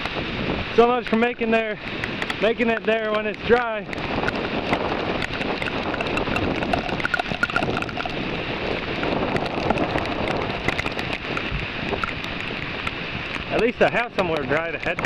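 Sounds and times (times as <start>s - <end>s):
heavy rain hiss: 0.0s - 15.0s
raindrops striking close by: 0.0s - 15.0s.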